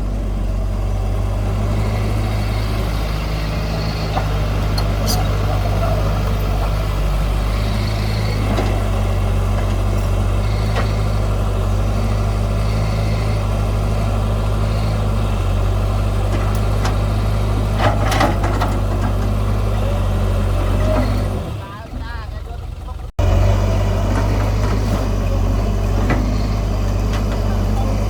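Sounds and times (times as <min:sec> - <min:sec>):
heavy diesel engine droning: 0:00.0 - 0:28.0.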